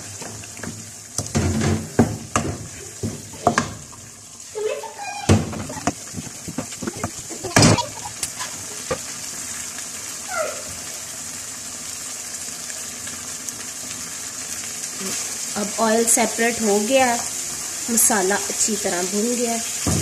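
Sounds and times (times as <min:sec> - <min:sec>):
masala sizzling in oil: 0:00.0 - 0:20.0.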